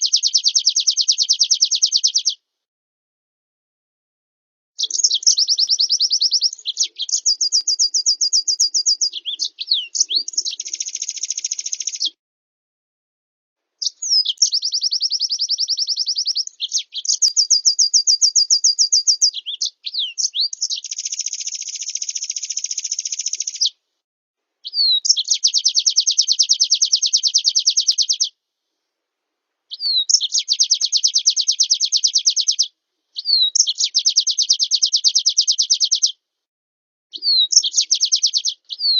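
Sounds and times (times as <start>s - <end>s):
bird song trills and warbles: 0.0s - 2.4s, 4.8s - 12.2s, 13.8s - 23.8s, 24.6s - 28.4s, 29.7s - 36.2s, 37.1s - 38.9s.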